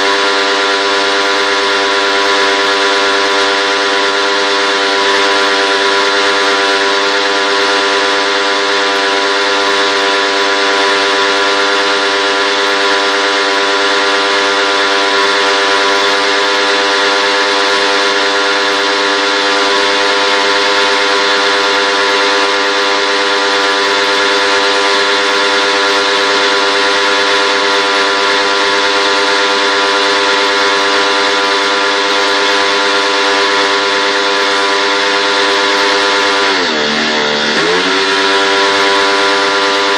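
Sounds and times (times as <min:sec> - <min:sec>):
motor running steadily: 0:00.0 - 0:39.9.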